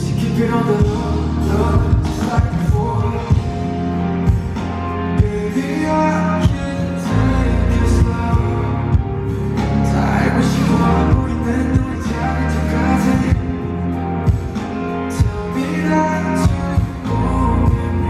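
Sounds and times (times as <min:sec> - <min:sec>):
steady drum beat: 0:00.1 - 0:18.0.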